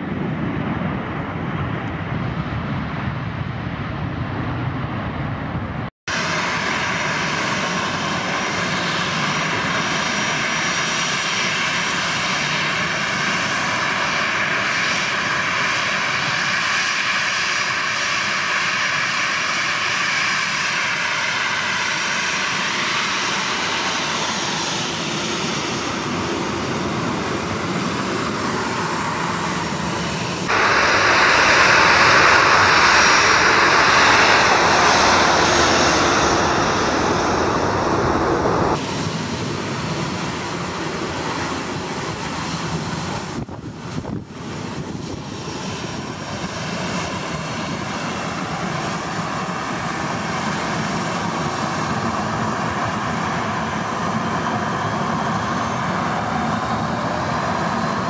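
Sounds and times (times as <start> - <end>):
jet engines at taxi power: 0.0 - 58.0.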